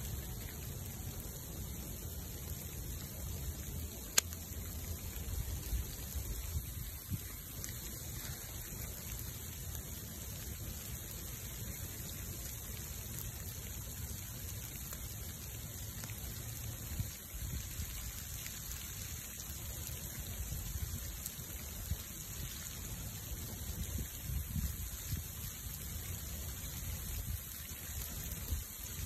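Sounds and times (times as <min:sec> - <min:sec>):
fire crackling and popping: 0:00.0 - 0:29.0
fire low rumble: 0:00.0 - 0:29.0
rain hissing: 0:00.0 - 0:29.0.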